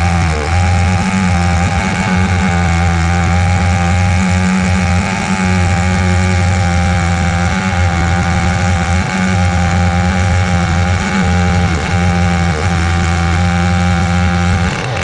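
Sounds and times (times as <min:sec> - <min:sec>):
chainsaw ripping a log: 0:00.0 - 0:15.0.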